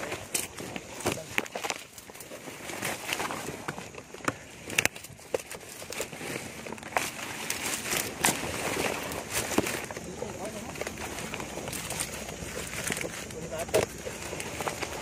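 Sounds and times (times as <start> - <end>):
leaves and twigs rustling: 0.0 - 15.0
twigs snapping: 0.0 - 15.0.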